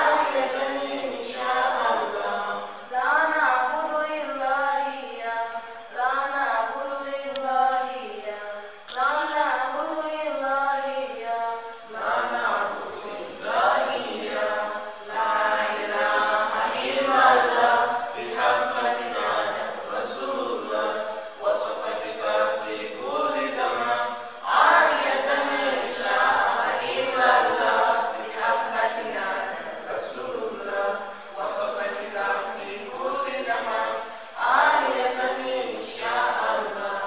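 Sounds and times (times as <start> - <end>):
unaccompanied voices chanting: 0.0 - 37.0.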